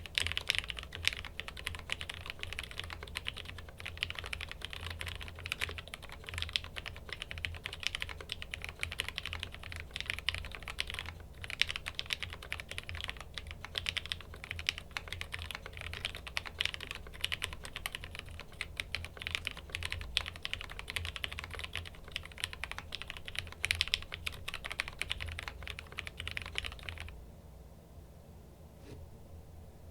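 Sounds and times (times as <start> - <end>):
mechanical keyboard typing: 0.0 - 27.2.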